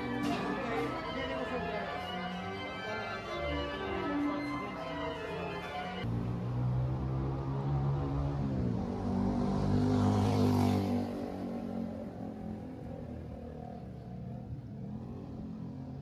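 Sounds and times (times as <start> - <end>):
motor vehicle passing: 0.0 - 16.0.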